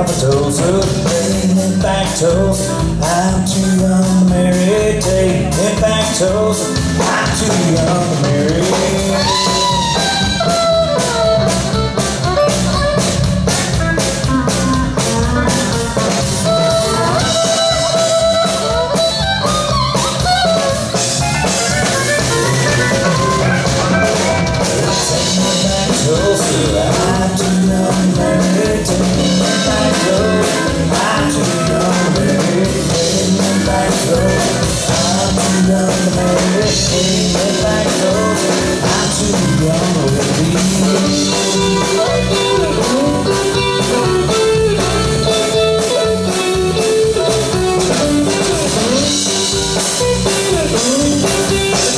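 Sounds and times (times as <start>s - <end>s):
band playing western swing: 0.0s - 51.9s.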